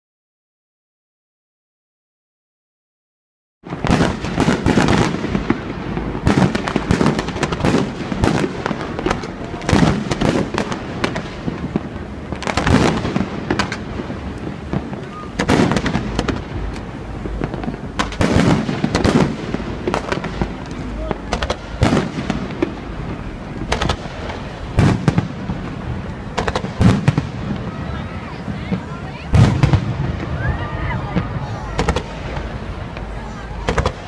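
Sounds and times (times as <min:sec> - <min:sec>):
fireworks bursting: 0:03.6 - 0:34.0.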